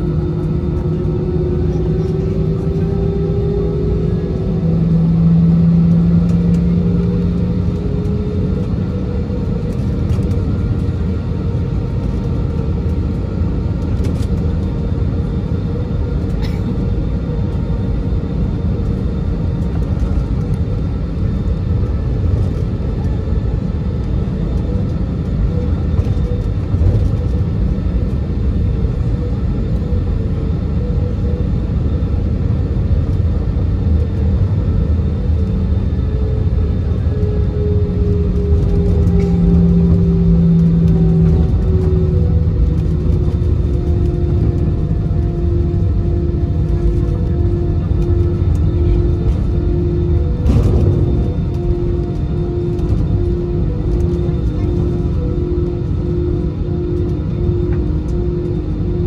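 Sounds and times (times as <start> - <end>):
airplane cabin rumble: 0.0 - 59.0
humming tone: 0.0 - 59.0.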